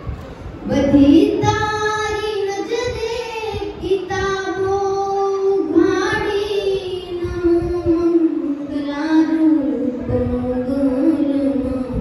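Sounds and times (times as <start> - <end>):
girl singing into a microphone: 0.0 - 12.0
low rhythmic thumps: 0.0 - 12.0.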